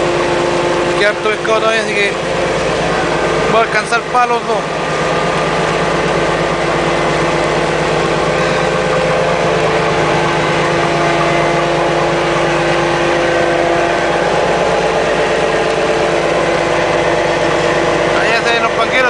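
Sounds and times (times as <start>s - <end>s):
boat engine and deck machinery droning: 0.0s - 19.0s.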